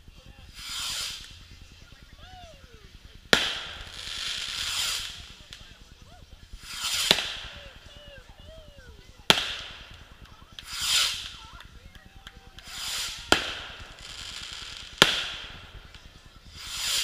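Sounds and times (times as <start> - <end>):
whoosh of fireworks going up: 0.0 - 17.0
firework shells bursting: 0.1 - 17.0.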